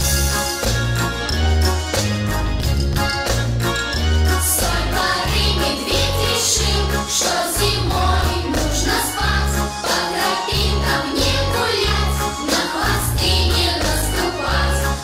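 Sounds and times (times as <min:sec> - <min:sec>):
upbeat children's song: 0:00.0 - 0:15.0.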